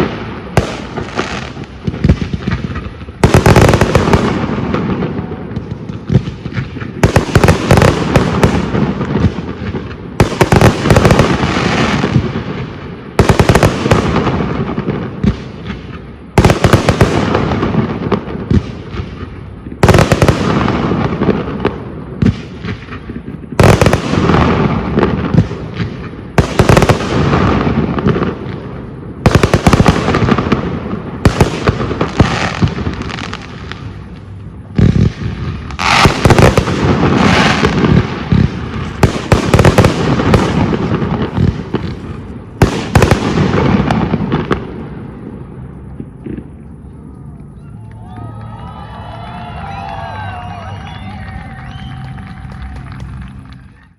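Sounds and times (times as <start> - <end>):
fireworks bangs: 0.0 - 46.7
fireworks crackling: 0.0 - 53.9.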